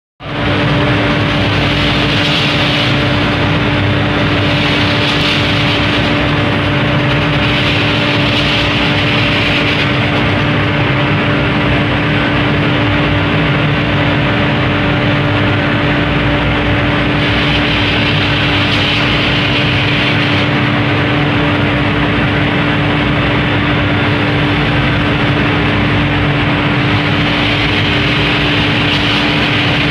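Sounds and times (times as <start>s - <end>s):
machine motor hum: 0.2s - 29.9s.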